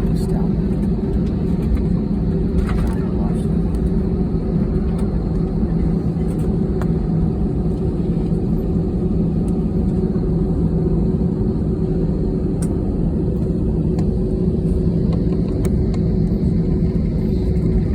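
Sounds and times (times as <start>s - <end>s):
airliner cabin rumble and hum: 0.0s - 17.9s.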